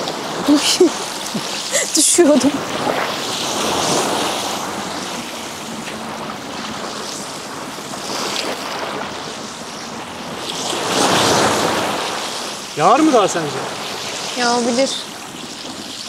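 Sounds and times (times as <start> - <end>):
sea waves washing onto shore: 0.0 - 16.0.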